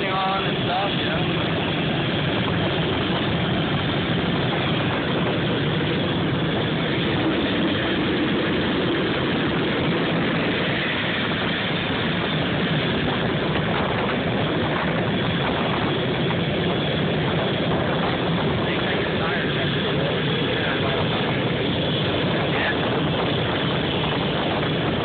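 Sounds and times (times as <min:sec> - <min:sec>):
loud jet turbine noise: 0:00.0 - 0:25.0.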